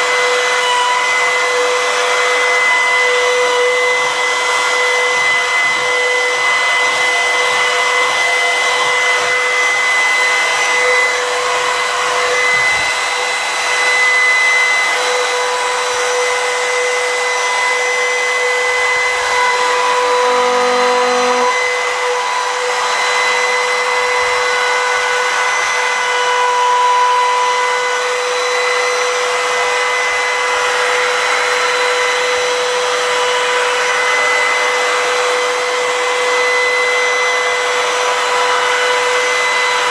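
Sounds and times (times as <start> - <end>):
router bit cutting wood: 0.0 - 39.9
router high whine: 0.0 - 39.9.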